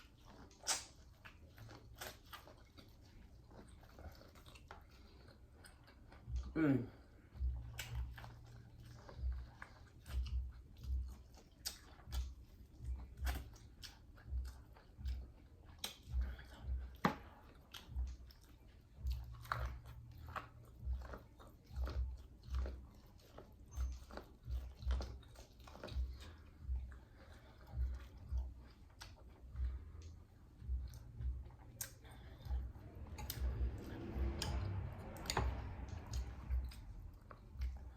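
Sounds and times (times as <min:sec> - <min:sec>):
person chewing food: 0:00.0 - 0:37.9.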